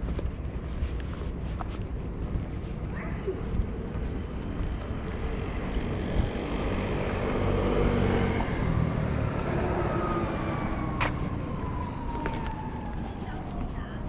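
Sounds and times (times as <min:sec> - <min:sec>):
vehicle passing rumble: 0:01.9 - 0:14.0.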